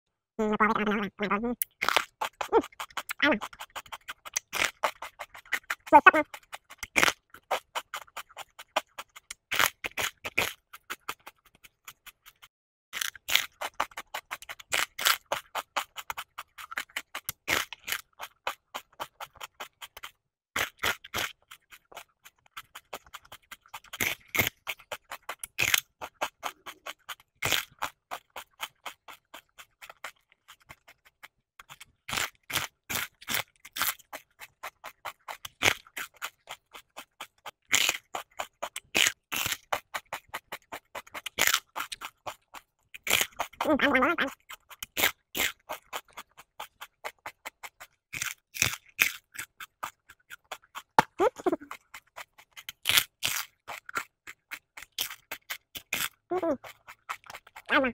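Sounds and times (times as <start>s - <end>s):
cabbage leaves crunching when chewed: 1.6s - 57.9s.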